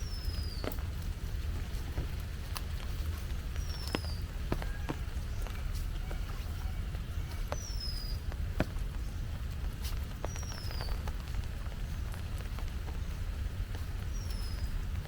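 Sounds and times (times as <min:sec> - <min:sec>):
footsteps on wet path: 0:00.0 - 0:15.0.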